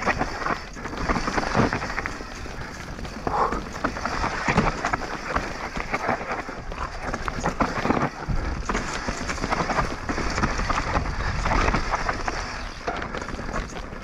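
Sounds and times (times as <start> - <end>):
bike rattling: 0.0 - 14.0
bike tyres crunching over stones: 0.0 - 14.0.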